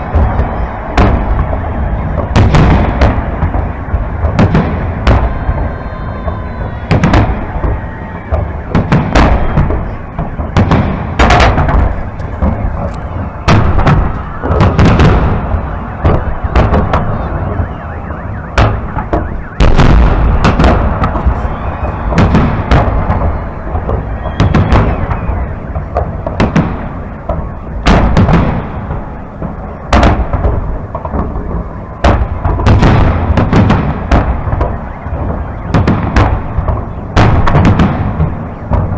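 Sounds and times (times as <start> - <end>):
low crackle and rumble: 0.0 - 38.9.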